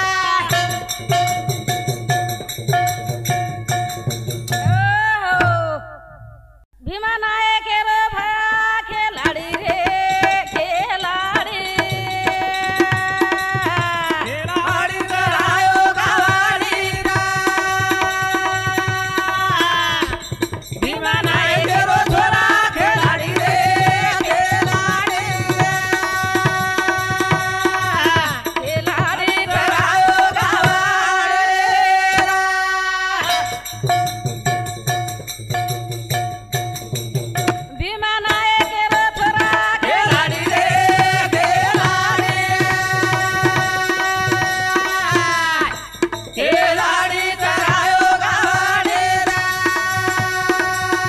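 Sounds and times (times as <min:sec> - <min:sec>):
woman singing: 0:00.0 - 0:01.0, 0:04.7 - 0:06.1, 0:06.8 - 0:33.4, 0:37.6 - 0:51.0
hand drum rhythm: 0:00.0 - 0:05.7, 0:09.2 - 0:31.3, 0:33.2 - 0:51.0.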